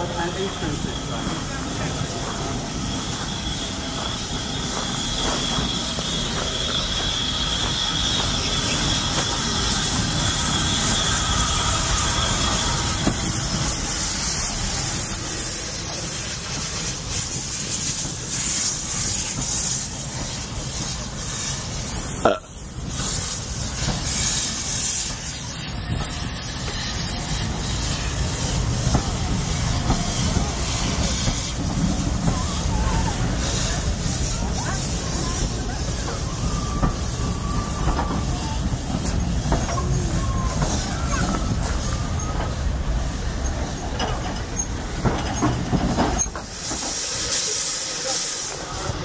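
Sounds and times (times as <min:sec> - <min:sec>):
steam hissing: 0:00.0 - 0:49.0
train wheels rumbling on rails: 0:00.0 - 0:49.0.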